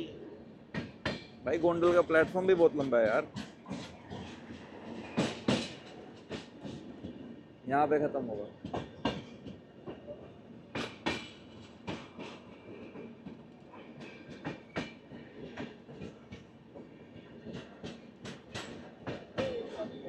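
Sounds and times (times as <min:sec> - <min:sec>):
train rolling rumble: 0:00.0 - 0:20.0
train wheels clacking over rail joints: 0:00.7 - 0:07.4, 0:08.2 - 0:20.0.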